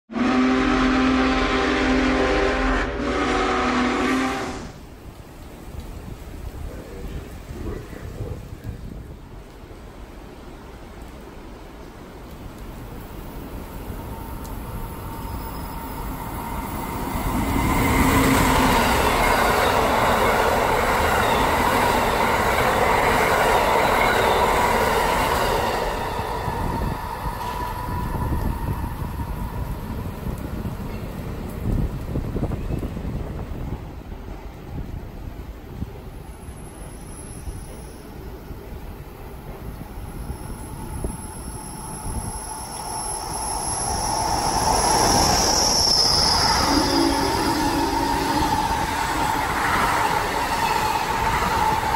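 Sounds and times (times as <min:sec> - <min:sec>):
train wheels rushing on rail: 0:00.1 - 0:51.9.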